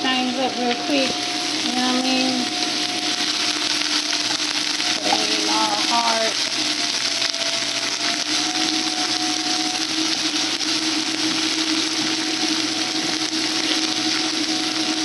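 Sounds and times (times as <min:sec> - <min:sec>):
faint steady hum: 0:00.0 - 0:15.0
peppers sizzling in oil: 0:00.0 - 0:15.0.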